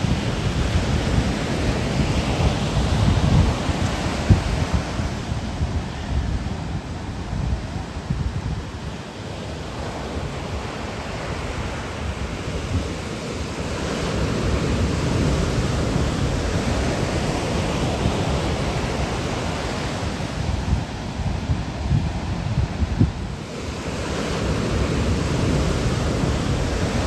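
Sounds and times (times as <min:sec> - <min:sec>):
ocean surf washing ashore: 0:00.0 - 0:27.0
wind buffeting microphone: 0:00.0 - 0:27.0.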